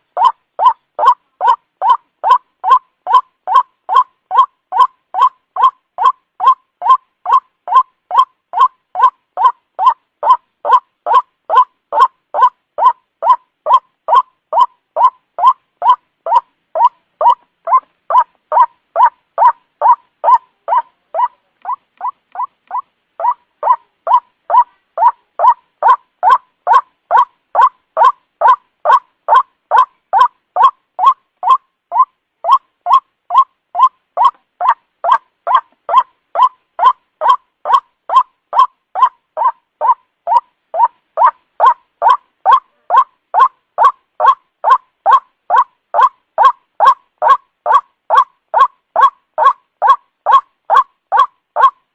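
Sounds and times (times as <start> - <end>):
bird croaking calls: 0.0 - 51.8.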